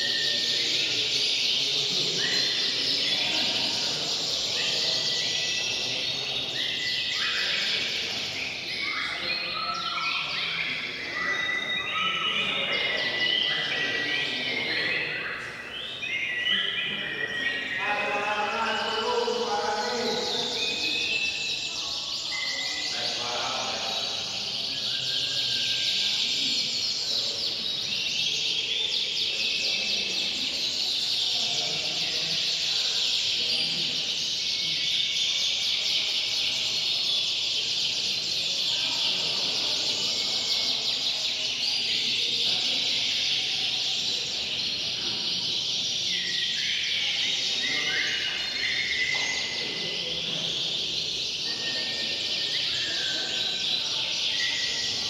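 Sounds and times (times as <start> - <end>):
canaries singing: 0.0 - 55.0.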